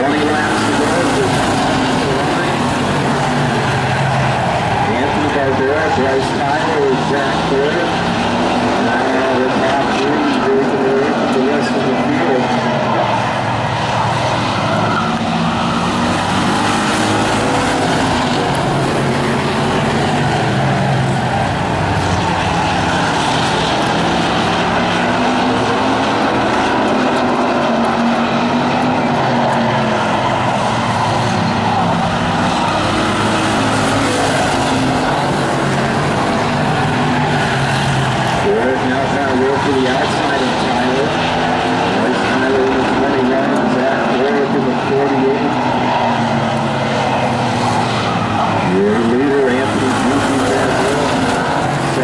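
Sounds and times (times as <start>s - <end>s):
race car engines droning: 0.0s - 52.0s.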